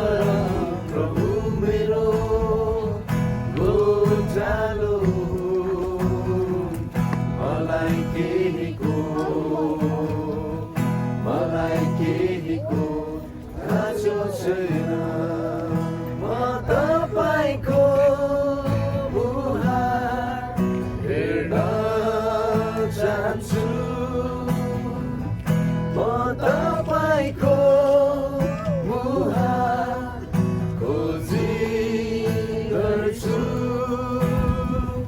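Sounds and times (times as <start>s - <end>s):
guitar: 0.0s - 35.0s
person singing worship song: 0.0s - 35.0s.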